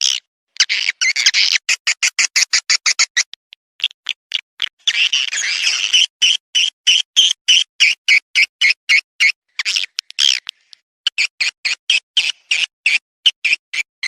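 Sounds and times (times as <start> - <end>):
rapid high bird chirps: 0.0 - 13.9.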